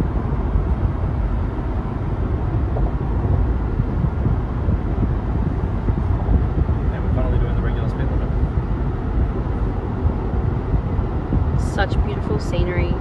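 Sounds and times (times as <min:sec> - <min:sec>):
road and wind rumble in car: 0:00.0 - 0:13.0.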